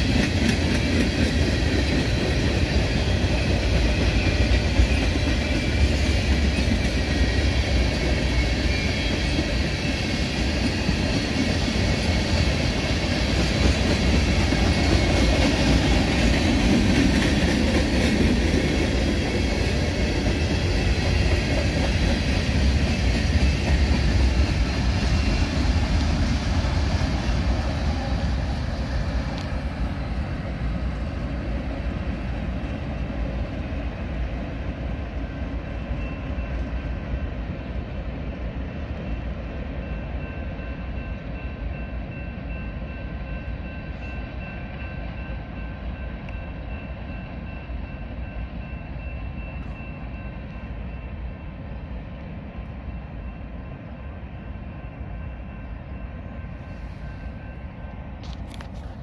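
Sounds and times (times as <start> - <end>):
freight train rumbling: 0.0 - 59.0.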